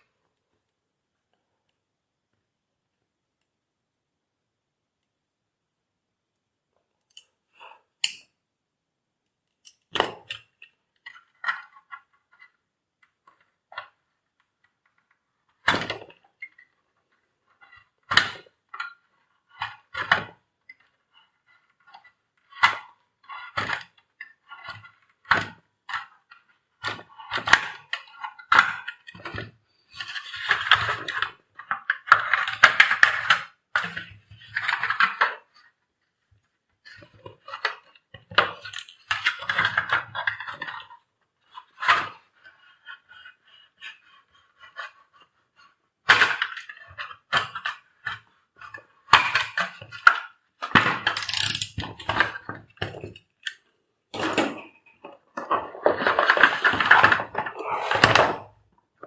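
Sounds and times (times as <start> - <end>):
plastic parts clicking and knocking: 9.6 - 35.8, 36.4 - 59.0.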